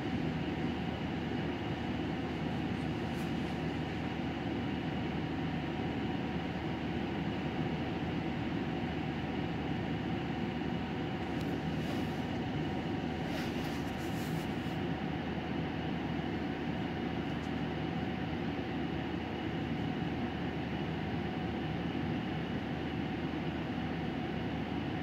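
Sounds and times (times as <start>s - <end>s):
bus engine and road noise: 0.0s - 25.0s.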